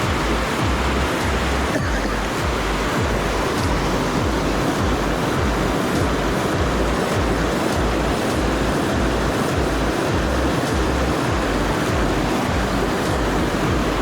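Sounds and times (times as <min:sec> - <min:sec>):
river rapids rushing: 0:00.0 - 0:14.0
wind on microphone: 0:00.0 - 0:14.0.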